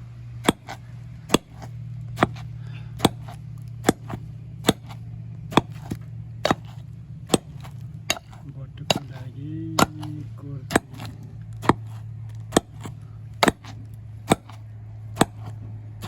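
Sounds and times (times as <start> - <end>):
low hum: 0.0 - 16.0
sharp knocks: 0.4 - 15.7.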